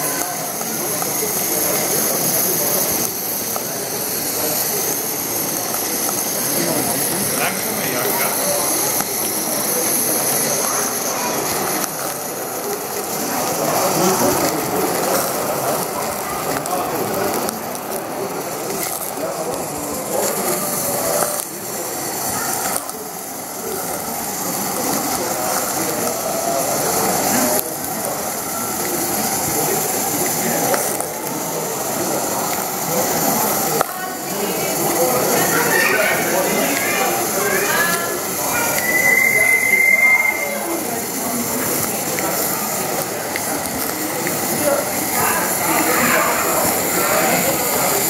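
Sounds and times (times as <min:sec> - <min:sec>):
model steam locomotive clattering: 0:00.0 - 0:48.0.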